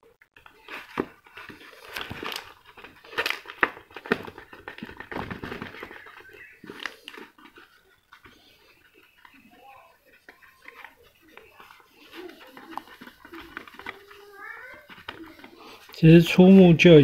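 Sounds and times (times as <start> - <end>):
scratchy rubbing on plastic: 0.6 - 16.0.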